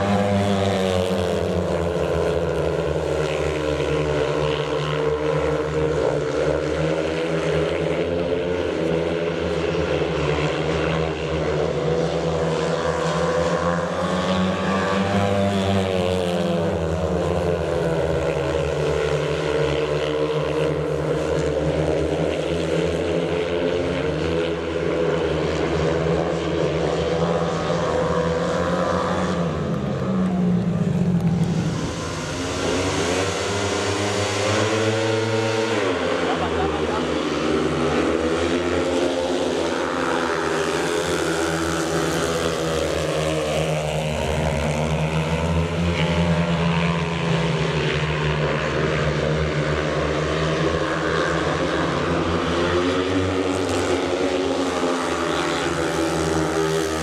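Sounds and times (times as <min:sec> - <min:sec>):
motorcycle engines racing: 0:00.0 - 0:57.0.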